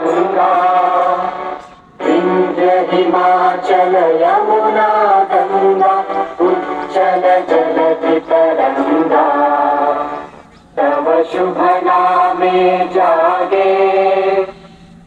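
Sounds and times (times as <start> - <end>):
choir singing an anthem: 0.0 - 14.7.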